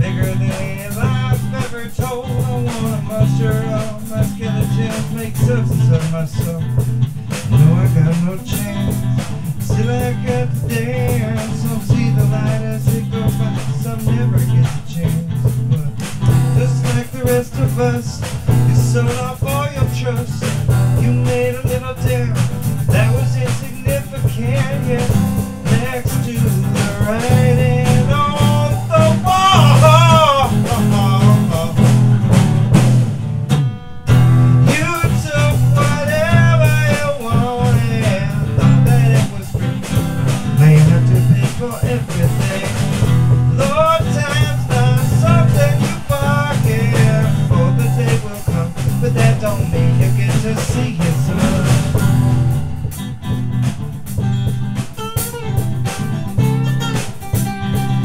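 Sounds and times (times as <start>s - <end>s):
drum kit: 0.0s - 58.0s
electric guitar lead: 0.0s - 58.0s.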